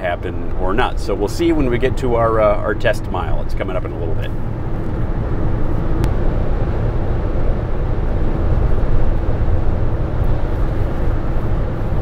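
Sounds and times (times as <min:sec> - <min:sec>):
road and wind noise in cab: 0:00.0 - 0:12.0.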